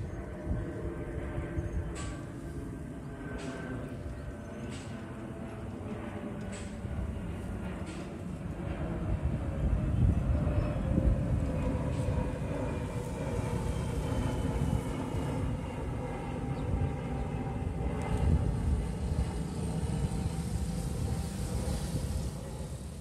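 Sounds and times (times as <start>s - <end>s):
faint engine drone: 0.0s - 23.0s.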